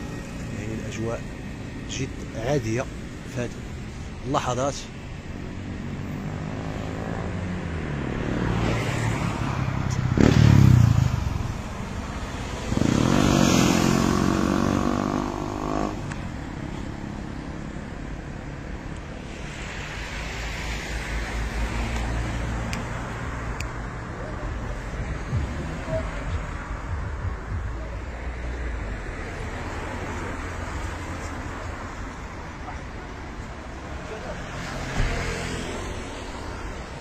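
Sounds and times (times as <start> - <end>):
vehicles passing close by: 0.0 - 37.0.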